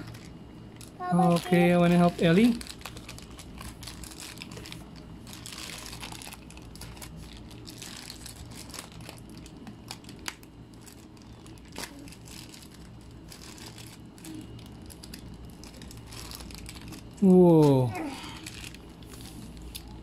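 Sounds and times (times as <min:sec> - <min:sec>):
plastic packet crinkling: 0:00.0 - 0:20.0.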